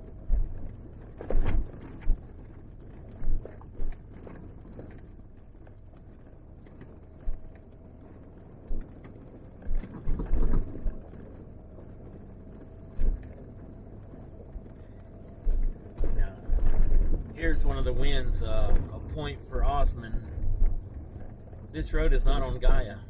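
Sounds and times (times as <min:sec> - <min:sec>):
vehicle driving on dirt road: 0:00.0 - 0:23.0.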